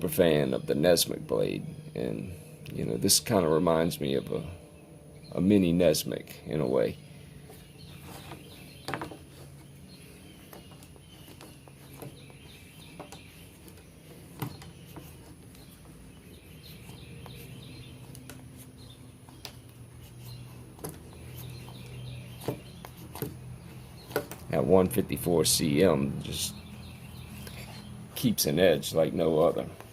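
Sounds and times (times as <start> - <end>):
small birds chirping: 0.1 - 29.9.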